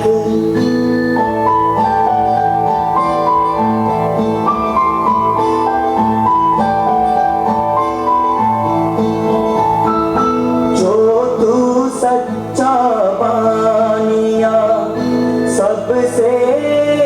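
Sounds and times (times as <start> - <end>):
instrumental melody over chords: 0.0 - 17.0.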